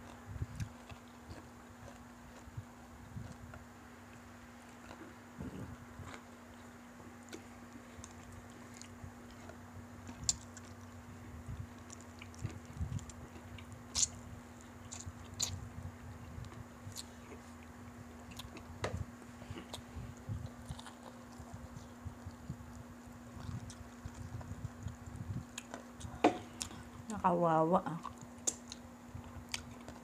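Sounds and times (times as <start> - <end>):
chewing crunchy fried chicken: 0.0 - 27.2, 27.8 - 30.0.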